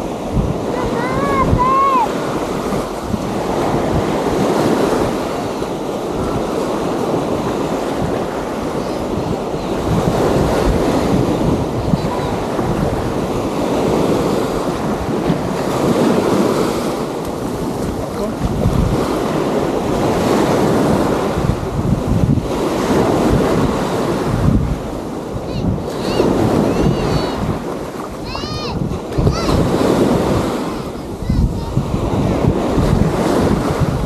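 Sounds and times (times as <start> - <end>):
small waves breaking on beach: 0.0 - 34.0
wind buffeting microphone: 0.0 - 34.0.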